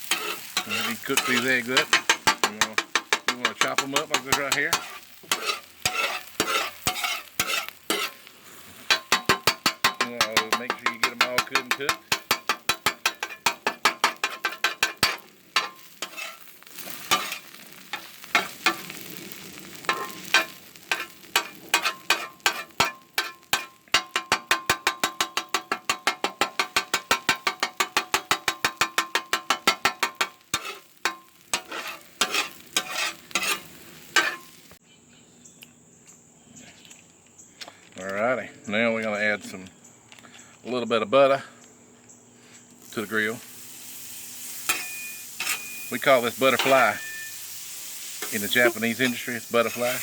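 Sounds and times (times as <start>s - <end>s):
metal spatula chopping on griddle: 0.0s - 19.0s, 19.6s - 34.6s, 44.0s - 50.0s
light sizzle: 0.0s - 34.8s, 42.0s - 50.0s.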